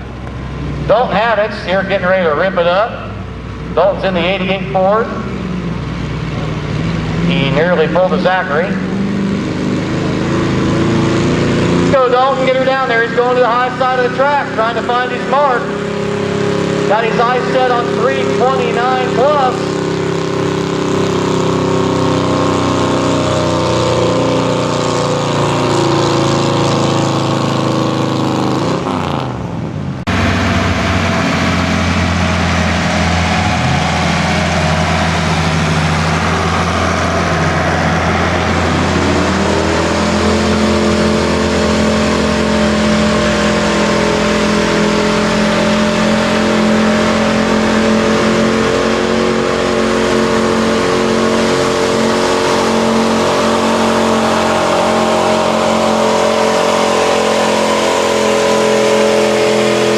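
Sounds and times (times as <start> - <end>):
pickup truck engines under load: 0.0 - 59.9.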